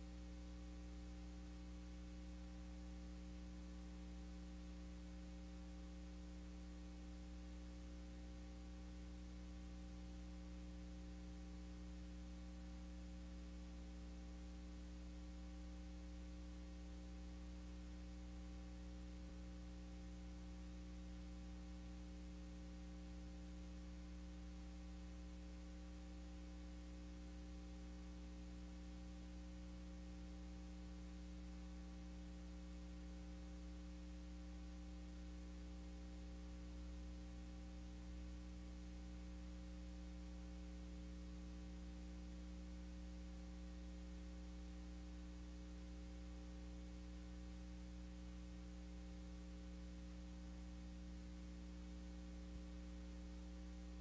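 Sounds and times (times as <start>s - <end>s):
electrical mains hum: 0.0s - 54.0s
tape hiss: 0.0s - 54.0s.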